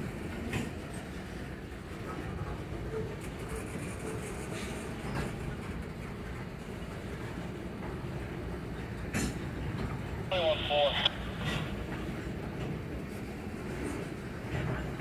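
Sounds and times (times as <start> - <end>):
wheels rumbling on track: 0.0 - 15.0.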